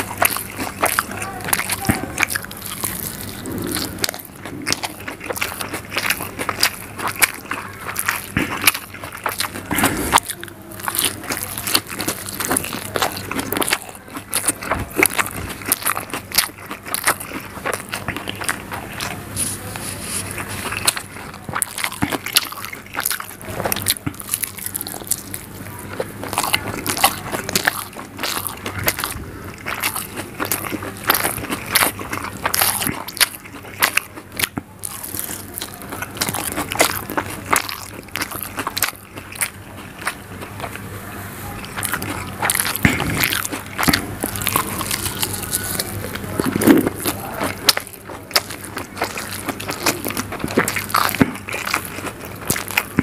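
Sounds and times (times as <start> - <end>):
person chewing with wet smacks: 0.0 - 53.0.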